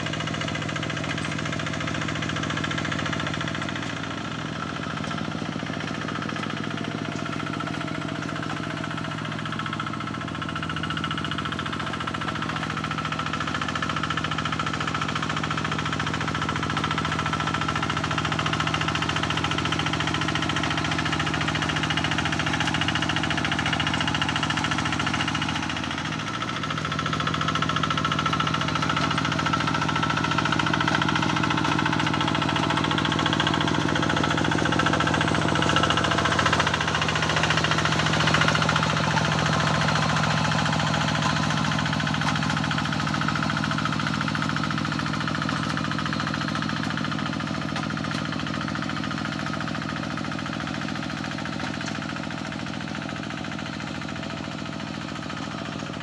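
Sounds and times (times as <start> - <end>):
hand tractor diesel engine: 0.0 - 56.0.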